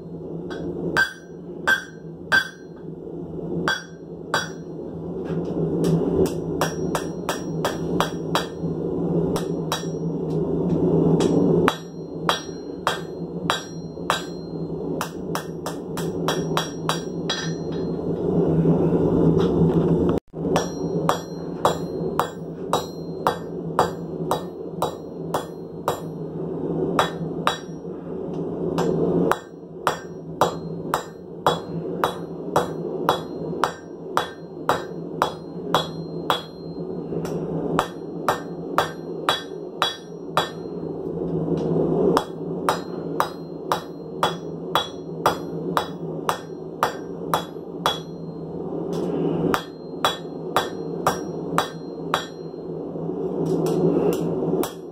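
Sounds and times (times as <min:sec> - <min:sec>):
hammer striking hot steel on anvil: 0:00.0 - 0:03.0, 0:03.6 - 0:18.3, 0:20.4 - 0:41.0, 0:41.6 - 0:52.8, 0:53.4 - 0:54.9.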